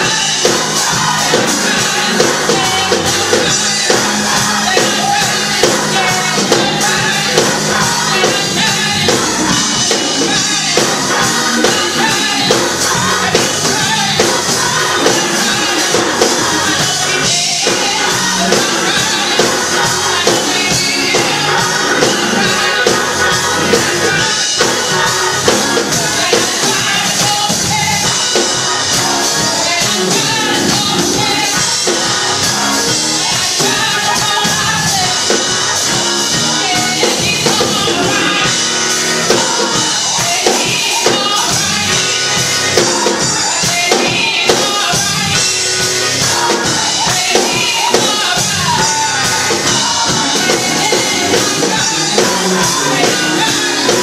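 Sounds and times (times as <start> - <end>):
woman singing into a microphone: 0.0 - 25.2, 33.2 - 35.5, 36.3 - 38.6, 39.2 - 45.6, 46.3 - 54.0
backing singers: 0.0 - 54.0
band playing a steady beat: 0.0 - 54.0.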